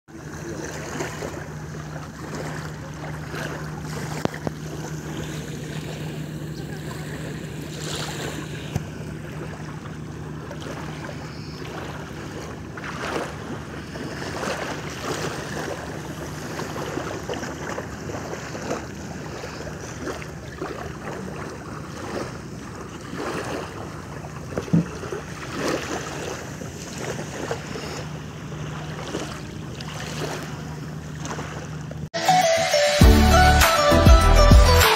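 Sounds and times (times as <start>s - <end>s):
short knocks and splashes: 0.1s - 32.1s
steady low hum: 0.1s - 32.1s
small waves lapping against boat: 0.1s - 32.2s.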